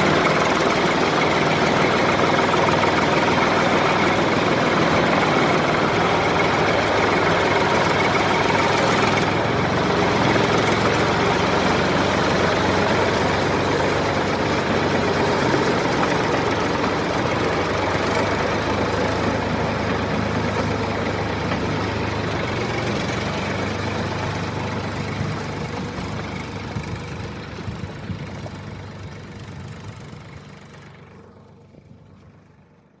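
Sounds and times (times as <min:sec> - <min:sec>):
tractor engine droning: 0:00.0 - 0:33.0.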